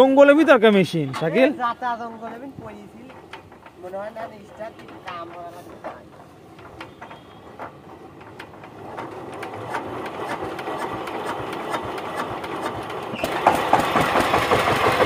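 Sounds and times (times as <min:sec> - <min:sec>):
diesel engine hand-cranked and running: 0:01.0 - 0:15.0.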